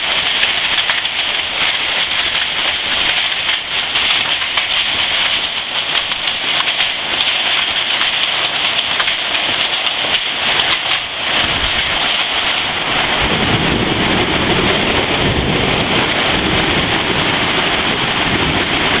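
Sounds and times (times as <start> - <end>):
hail and heavy rain clattering: 0.0 - 19.0.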